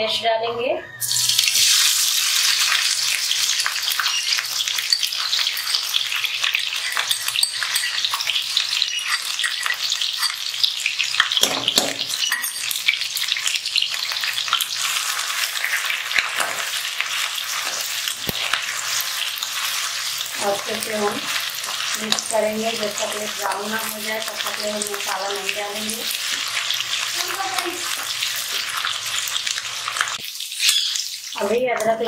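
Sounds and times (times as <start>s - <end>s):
food sizzling in hot oil: 1.0s - 32.0s
spatula stirring: 1.6s - 31.9s.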